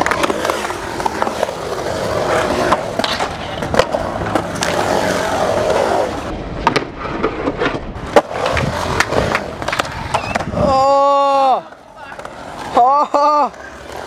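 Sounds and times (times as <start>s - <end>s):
skateboard clacks: 0.0s - 14.0s
skateboard wheels rolling: 0.0s - 14.0s.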